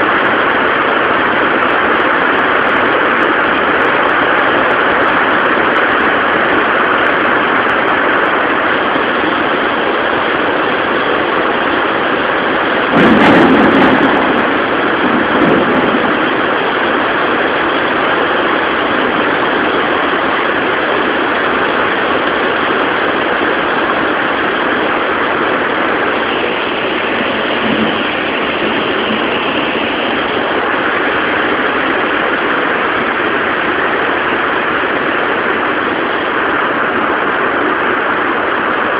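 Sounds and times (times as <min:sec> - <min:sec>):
heavy rain pouring: 0:00.0 - 0:38.9
thunder rumbling: 0:00.0 - 0:38.9.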